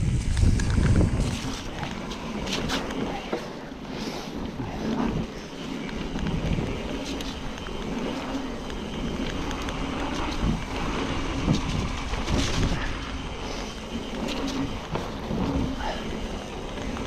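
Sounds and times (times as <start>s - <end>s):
bike rattling clicks: 0.0s - 17.0s
bike tyres rumbling over ground: 0.0s - 17.0s
wind on microphone: 0.0s - 17.0s.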